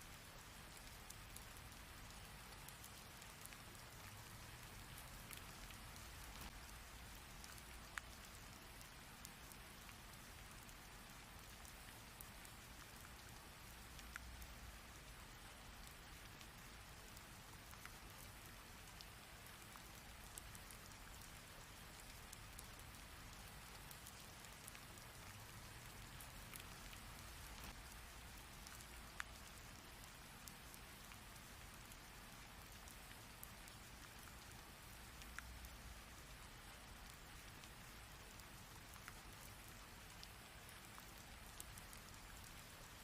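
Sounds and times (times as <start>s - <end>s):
single raindrops ticking: 0.1s - 43.0s.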